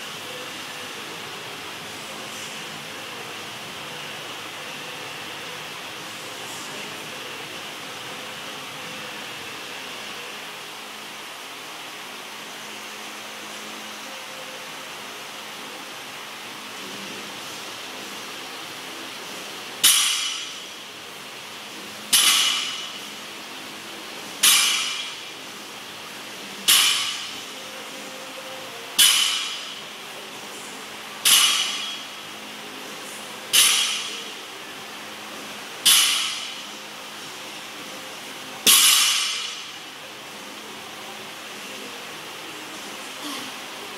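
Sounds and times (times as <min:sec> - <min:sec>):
steady background hiss: 0:00.0 - 0:43.9.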